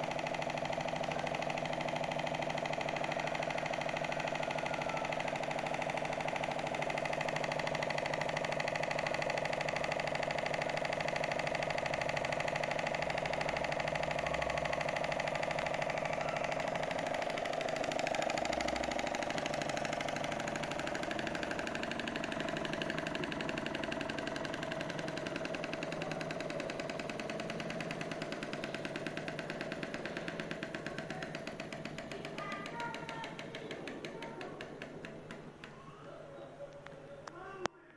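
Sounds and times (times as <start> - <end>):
model engine clattering and whining: 0.0 - 35.8.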